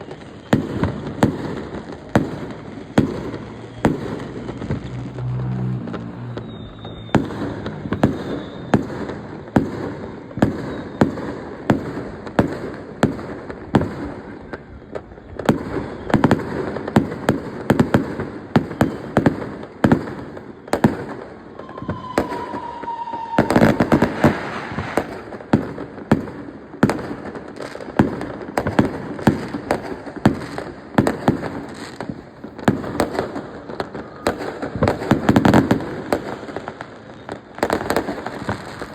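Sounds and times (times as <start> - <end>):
falling firework whistle: 0.0 - 12.6, 13.8 - 25.8, 31.2 - 38.9
fireworks banging and crackling: 0.0 - 38.9.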